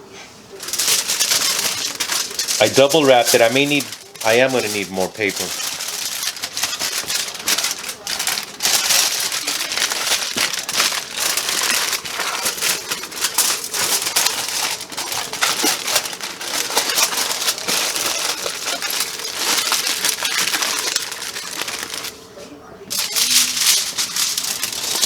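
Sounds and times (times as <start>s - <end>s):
wrapping paper crinkling: 0.4s - 25.0s.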